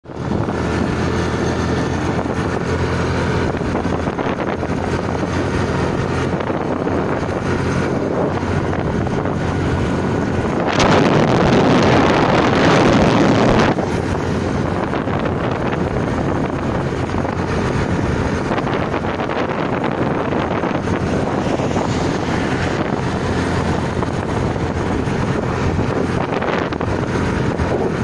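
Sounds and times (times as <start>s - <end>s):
motorbike engine running: 0.0s - 28.0s
wind on microphone: 0.0s - 28.0s.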